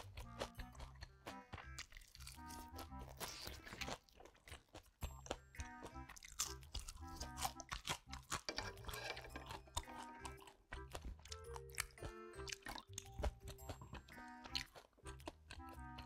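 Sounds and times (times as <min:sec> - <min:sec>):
crunching of crispy food: 0:00.0 - 0:16.0.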